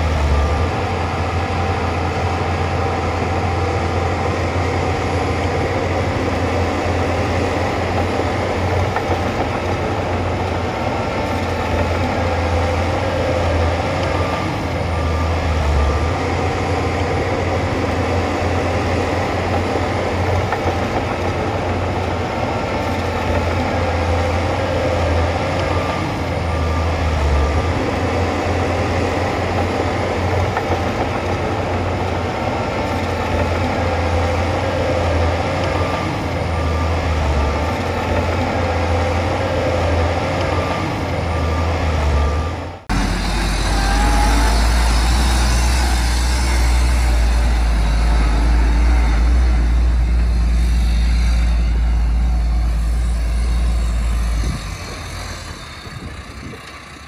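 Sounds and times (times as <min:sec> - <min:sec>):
diesel earthmoving machinery: 0:00.0 - 0:57.0.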